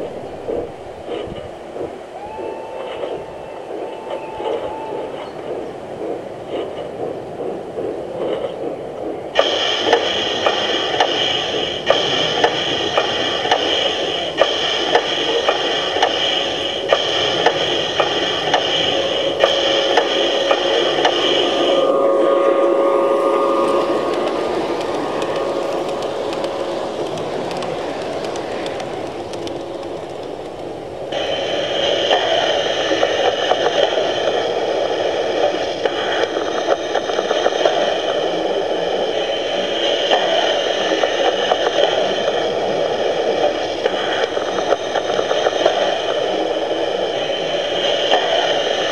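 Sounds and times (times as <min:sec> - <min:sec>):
faint rail clicks: 0:00.0 - 0:22.0, 0:23.3 - 0:48.9
high tones with regular beat: 0:00.0 - 0:48.9
model train rolling rumble: 0:00.0 - 0:48.9
thin whine: 0:00.0 - 0:48.9.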